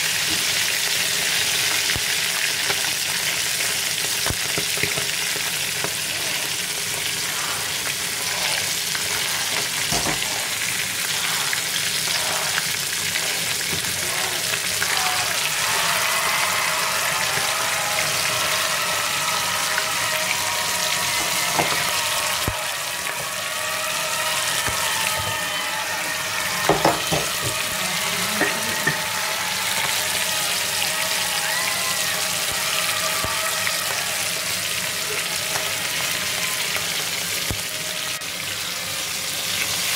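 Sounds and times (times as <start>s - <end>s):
oil sizzling in a pan: 0.0s - 39.9s.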